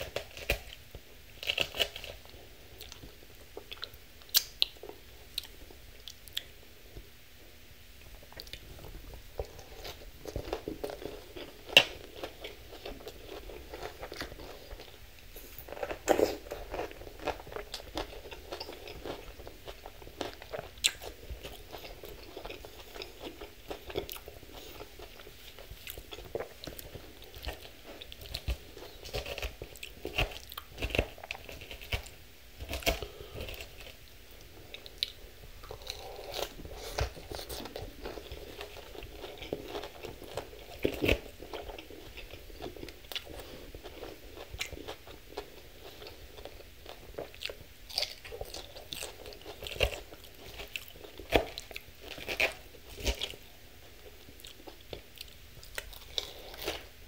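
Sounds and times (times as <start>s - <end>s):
chewing and crunching salad: 0.0s - 6.6s, 8.0s - 57.0s.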